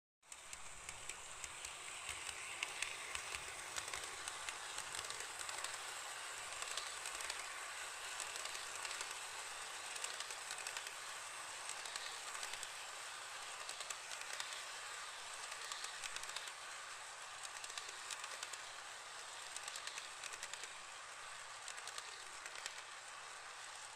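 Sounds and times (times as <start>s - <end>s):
model train rolling on track: 0.2s - 23.9s
wheels clicking on rails: 0.3s - 23.9s.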